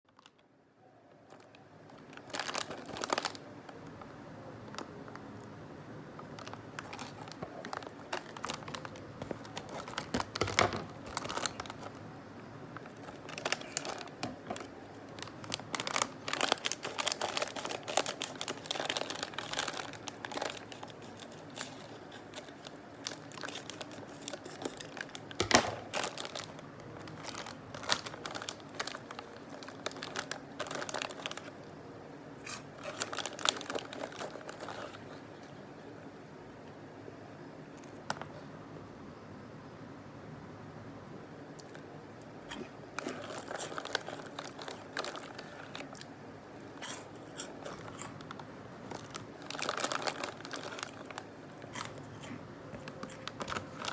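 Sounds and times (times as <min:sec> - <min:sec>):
plastic snack packet crinkling: 0:00.1 - 0:00.4, 0:01.2 - 0:31.8, 0:32.4 - 0:35.6, 0:42.5 - 0:53.9.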